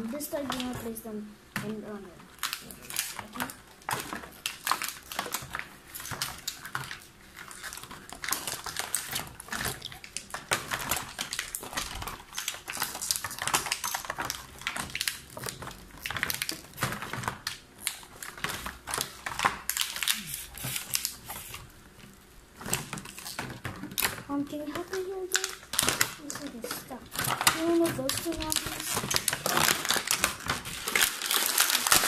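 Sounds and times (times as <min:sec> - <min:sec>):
plastic packaging crackling: 0:00.0 - 0:32.0.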